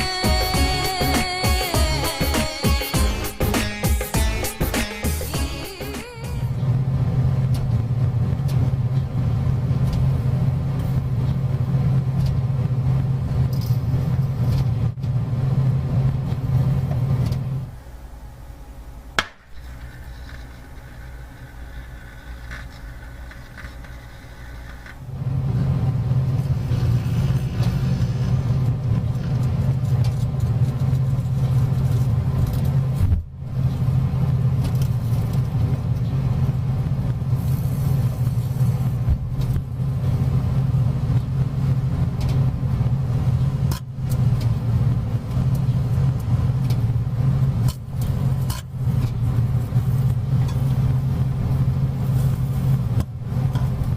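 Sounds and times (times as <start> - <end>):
microwave oven humming: 0.0 - 53.9.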